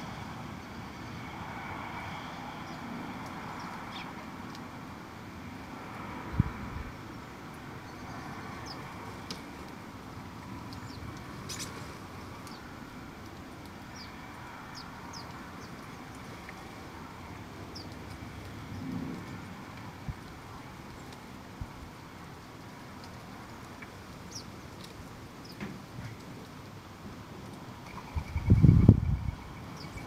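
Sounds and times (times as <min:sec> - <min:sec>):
distant traffic hum: 0:00.0 - 0:30.0.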